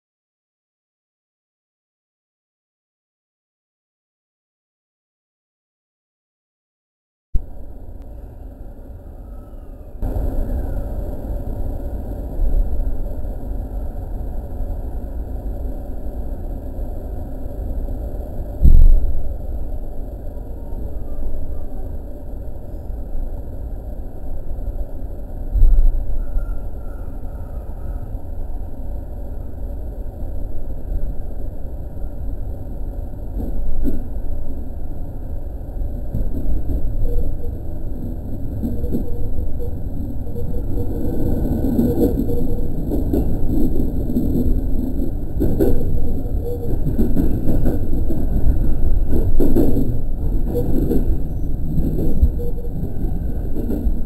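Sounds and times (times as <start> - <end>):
train cab low rumble: 7.4 - 54.0.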